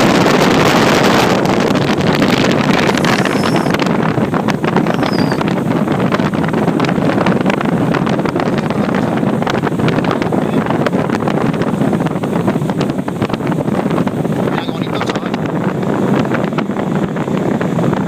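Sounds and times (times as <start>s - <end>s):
boat motor: 0.0s - 18.0s
water rushing along hull: 0.0s - 18.0s
wind blasting microphone: 0.0s - 18.0s.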